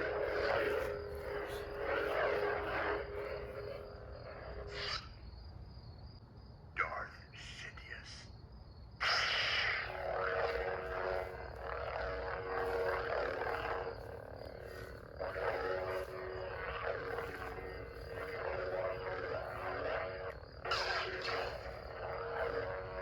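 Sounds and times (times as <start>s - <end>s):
lightsaber swing sounds: 0.0s - 5.1s, 9.0s - 23.0s
lightsaber hum: 0.0s - 5.6s, 9.0s - 23.0s.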